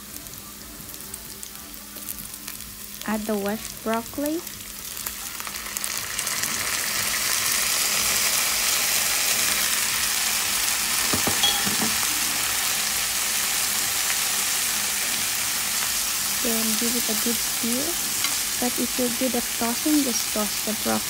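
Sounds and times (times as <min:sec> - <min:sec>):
oil sizzling in a frying pan: 0:00.0 - 0:21.0.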